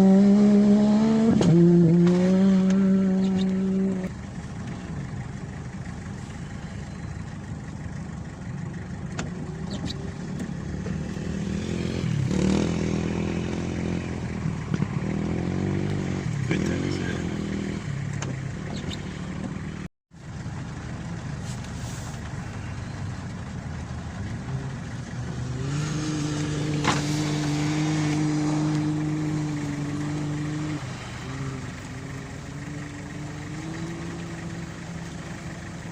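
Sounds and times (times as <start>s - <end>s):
rally car engine under load: 0.0s - 35.9s.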